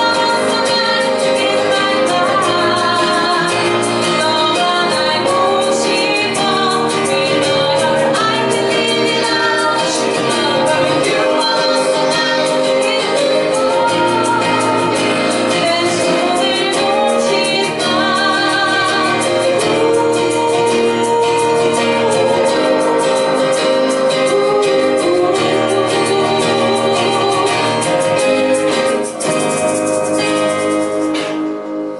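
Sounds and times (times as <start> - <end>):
live band playing: 0.0 - 31.9
person singing: 0.0 - 31.9.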